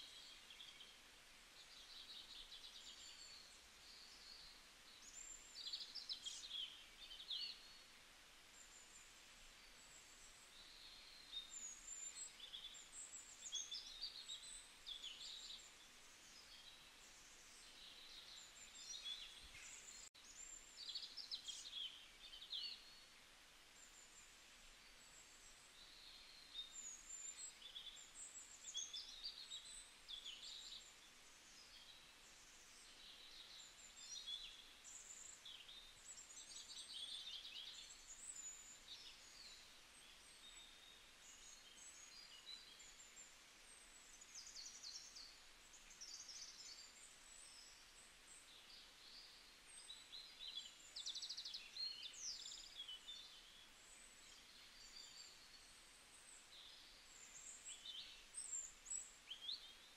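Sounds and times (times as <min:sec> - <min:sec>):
small birds chirping: 0:00.0 - 0:59.9
steady low hiss: 0:00.0 - 0:59.9.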